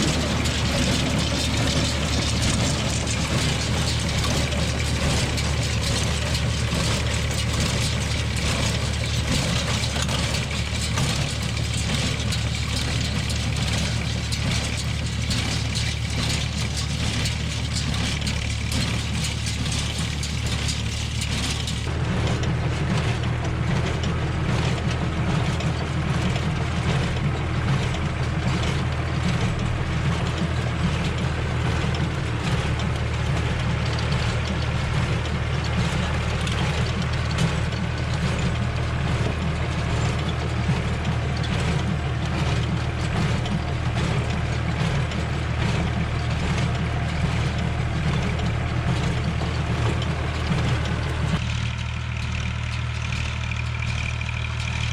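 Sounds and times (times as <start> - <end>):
hay baler clattering: 0.0 - 54.9
tractor engine running: 0.0 - 54.9.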